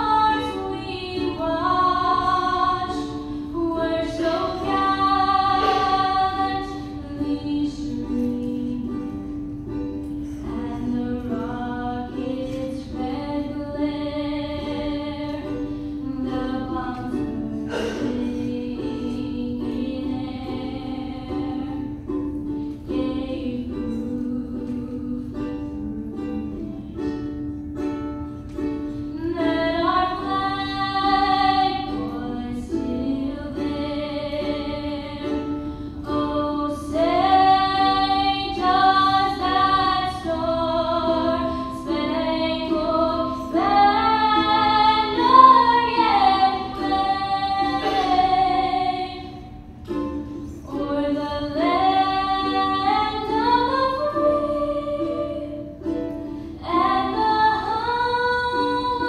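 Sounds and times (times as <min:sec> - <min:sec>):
woman singing: 0:00.0 - 0:09.4, 0:10.3 - 0:22.1, 0:22.7 - 0:27.1, 0:29.1 - 0:59.0
strummed ukulele: 0:00.0 - 0:59.0.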